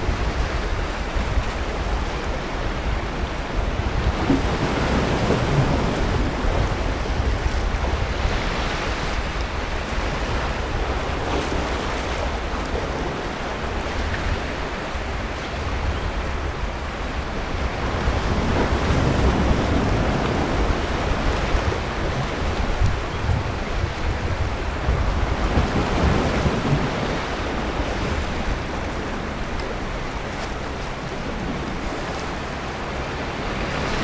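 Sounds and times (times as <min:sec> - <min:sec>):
sea waves breaking: 0:00.0 - 0:34.0
wind buffeting microphone: 0:00.0 - 0:34.0.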